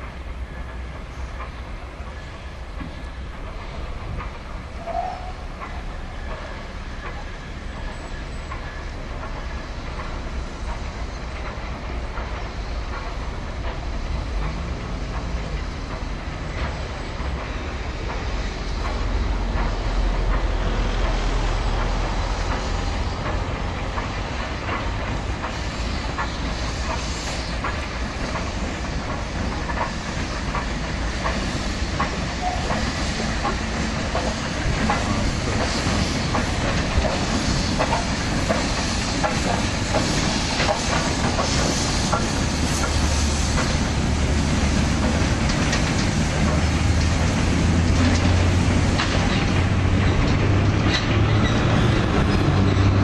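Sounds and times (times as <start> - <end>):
steam hissing: 0.0 - 53.0
steam train rumble: 0.0 - 53.0
wheels clicking over rail joints: 0.0 - 53.0.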